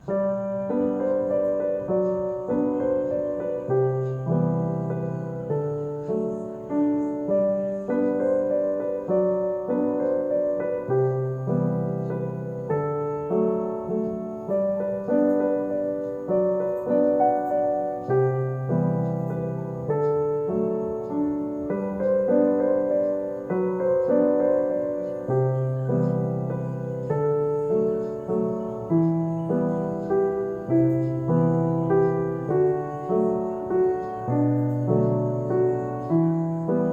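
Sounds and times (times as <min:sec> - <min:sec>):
gentle piano music: 0:00.0 - 0:36.9.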